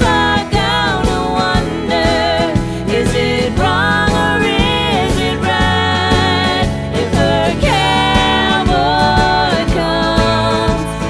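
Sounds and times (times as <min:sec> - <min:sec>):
music with singing and beat: 0:00.0 - 0:11.0.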